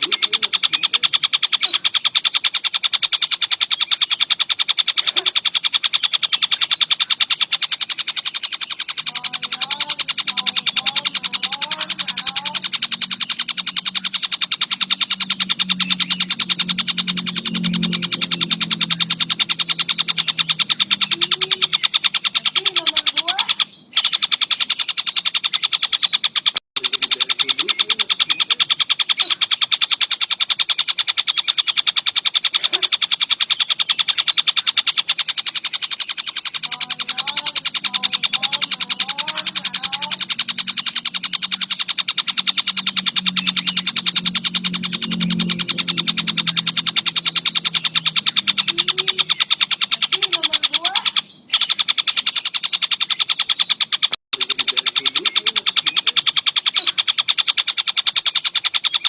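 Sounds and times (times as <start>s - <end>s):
kingfisher high-pitched chatter: 0.0s - 59.0s.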